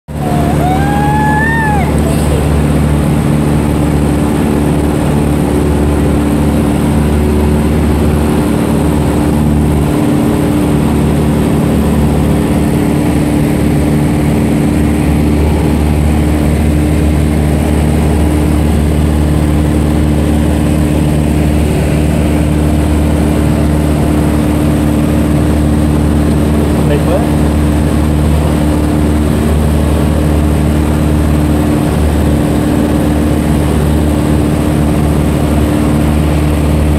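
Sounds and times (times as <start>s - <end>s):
propeller aircraft engine droning: 0.1s - 36.9s.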